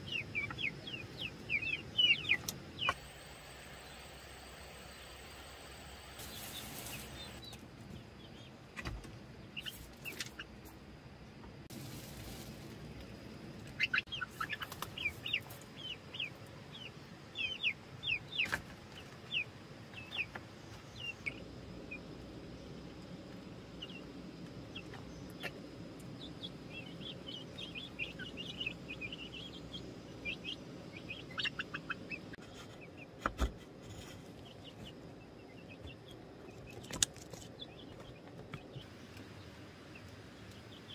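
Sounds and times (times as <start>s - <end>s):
birds chirping: 0.0s - 10.6s, 13.1s - 33.2s, 34.4s - 40.9s.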